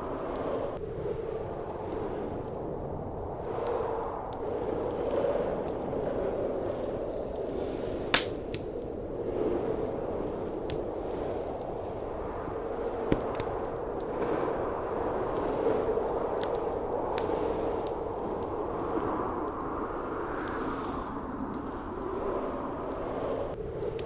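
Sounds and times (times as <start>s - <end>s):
blizzard wind blowing: 0.0s - 24.0s
wood fire crackling: 0.0s - 24.0s.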